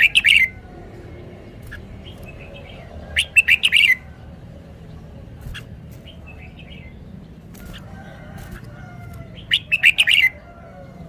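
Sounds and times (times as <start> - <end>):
bird singing: 0.0 - 11.0.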